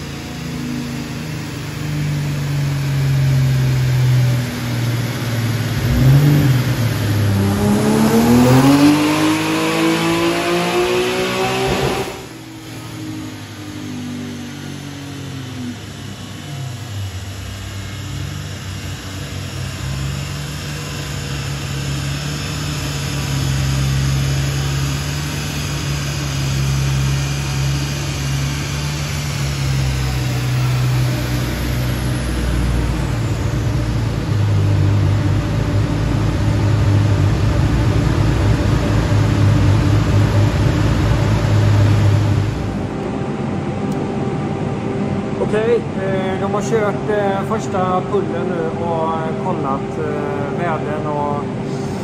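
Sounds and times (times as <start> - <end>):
car engine running hard: 0.0 - 52.0.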